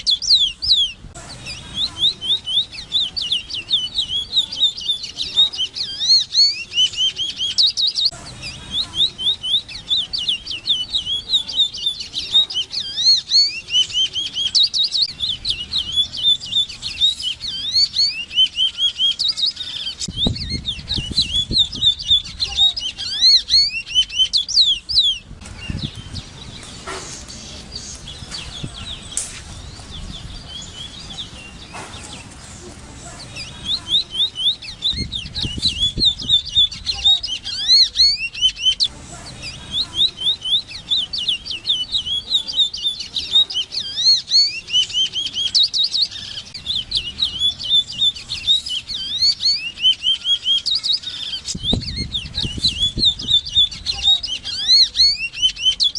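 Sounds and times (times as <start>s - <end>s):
bird singing whistled notes: 0.0s - 32.3s, 33.2s - 55.9s.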